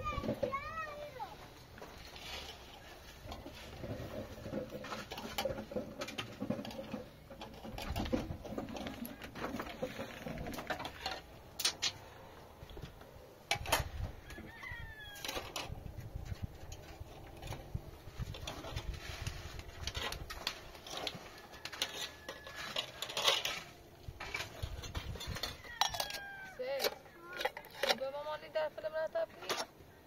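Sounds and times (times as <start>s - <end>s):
objects knocking and clattering: 0.0s - 1.1s, 1.8s - 12.0s, 15.2s - 28.2s.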